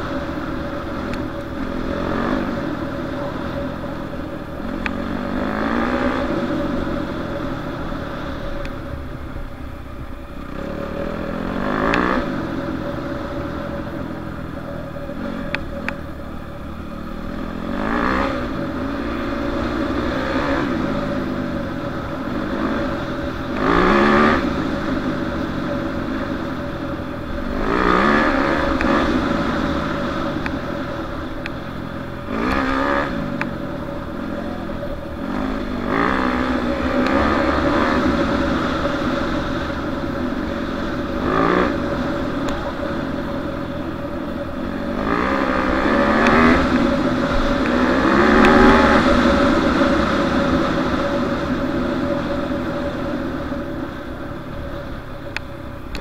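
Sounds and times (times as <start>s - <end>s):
dirt bike engine revving: 0.0s - 8.6s, 10.4s - 54.6s.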